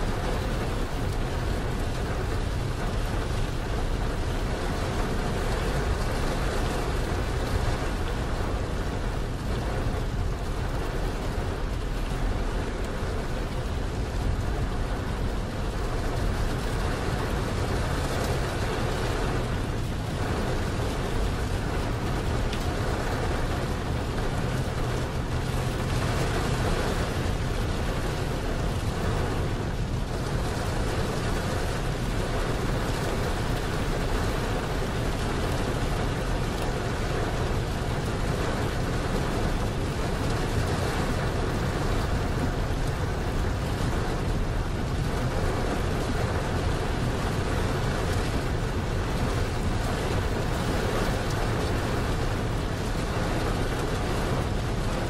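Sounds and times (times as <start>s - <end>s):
steady rain: 0.0s - 55.0s
tyre noise on wet road: 0.0s - 55.0s.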